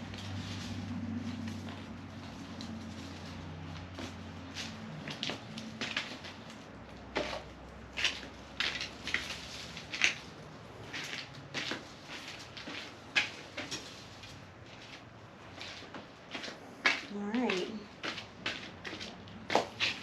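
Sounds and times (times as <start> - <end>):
scraping soil while digging: 0.0 - 20.0.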